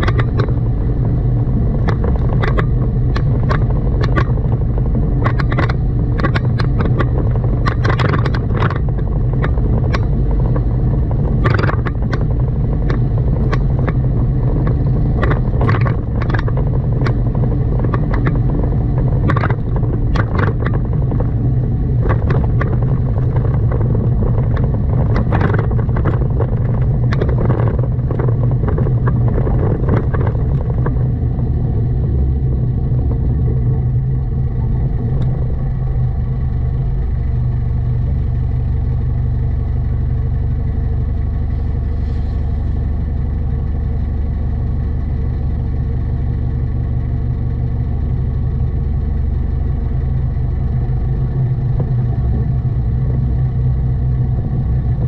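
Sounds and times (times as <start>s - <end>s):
car engine and road rumble: 0.0s - 55.0s
sharp clicks and rattles: 0.0s - 55.0s.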